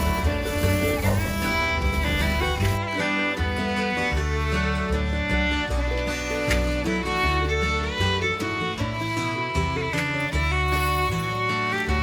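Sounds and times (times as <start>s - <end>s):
fiddle playing bluegrass tune: 0.0s - 12.0s
guitar and bass notes: 0.0s - 12.0s.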